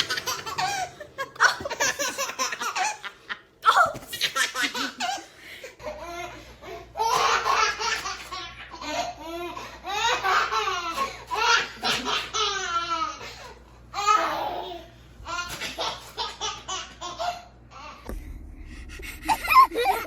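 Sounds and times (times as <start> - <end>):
baby laughing: 0.0 - 13.4, 14.0 - 18.0, 19.3 - 20.0.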